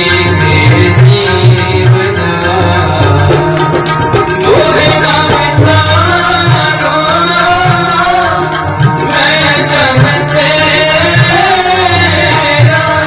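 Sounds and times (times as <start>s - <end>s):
man singing: 0.0s - 13.0s
sustained harmonium: 0.0s - 13.0s.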